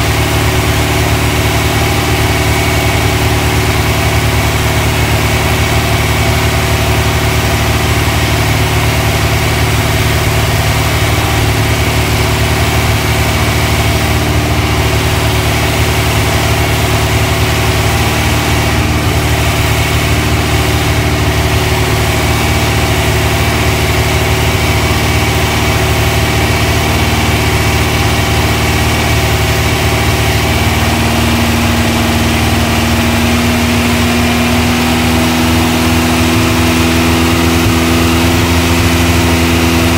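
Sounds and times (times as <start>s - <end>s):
air-cooled engine running steadily: 0.0s - 39.9s.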